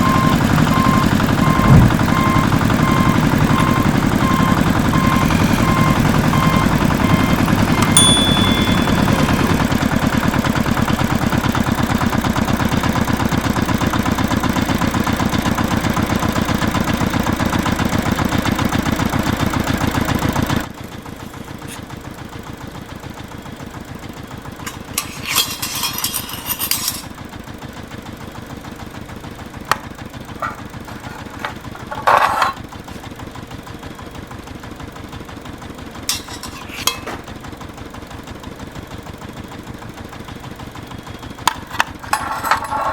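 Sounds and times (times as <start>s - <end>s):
mini tractor engine running: 0.0s - 42.9s.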